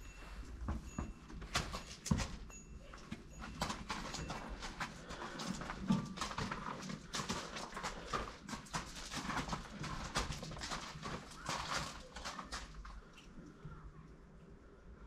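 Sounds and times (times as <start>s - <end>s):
hooves clip-clopping on hard floor: 0.0s - 13.4s.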